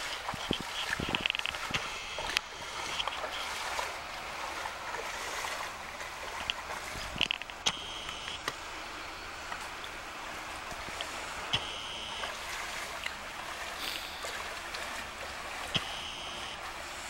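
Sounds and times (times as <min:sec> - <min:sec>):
rain falling on water and leaves: 0:00.0 - 0:17.0.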